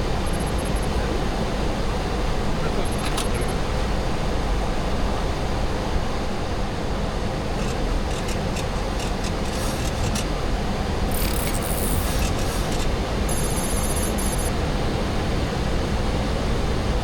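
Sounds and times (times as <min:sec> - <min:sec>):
airflow and aircraft engine noise: 0:00.0 - 0:17.0.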